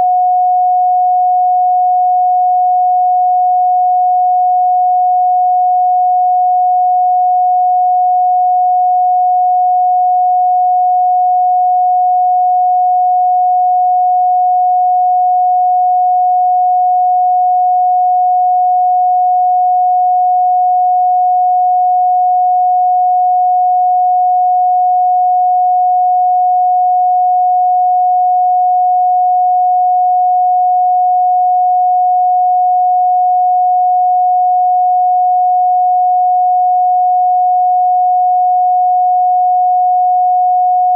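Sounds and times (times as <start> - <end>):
steady electronic sine tone: 0.0 - 40.9.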